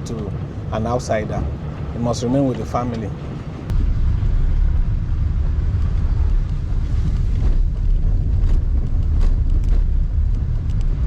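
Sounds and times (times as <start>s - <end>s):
road noise: 0.0s - 11.0s
vehicle rumble: 0.0s - 11.0s
wind buffeting microphone: 0.0s - 11.0s.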